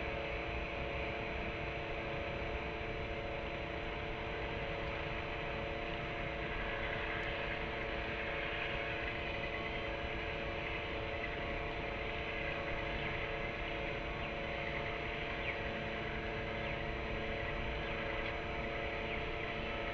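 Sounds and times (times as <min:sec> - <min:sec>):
city machinery hum: 0:00.0 - 0:19.9.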